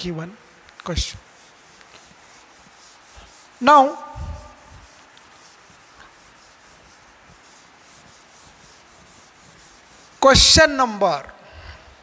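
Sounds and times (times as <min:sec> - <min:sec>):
duster scrubbing chalkboard: 0:00.0 - 0:11.3.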